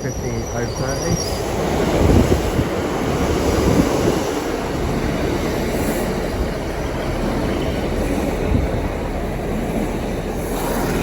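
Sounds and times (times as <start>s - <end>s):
diesel train engines rumbling: 0.0s - 11.0s
train wheels on rails: 0.0s - 11.0s.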